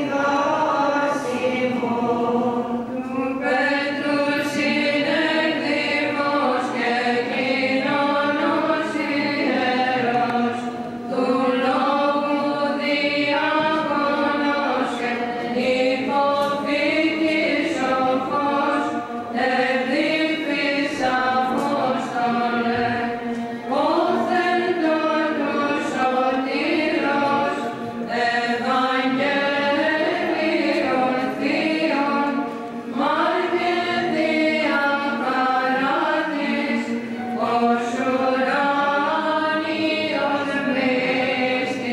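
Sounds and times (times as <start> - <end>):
voices chanting a hymn: 0.0 - 41.9.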